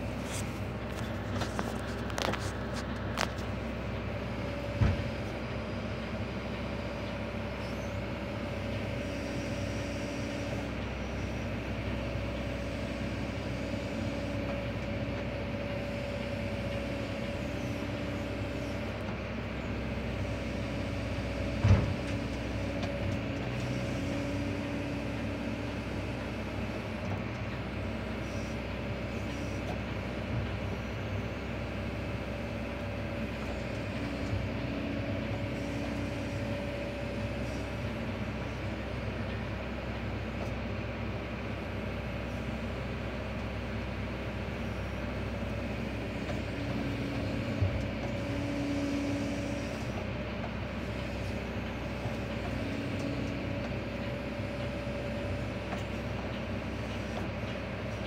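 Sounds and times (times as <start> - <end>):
hydraulic whine: 0.0 - 40.4, 41.5 - 58.0
excavator diesel engine running: 0.0 - 58.0.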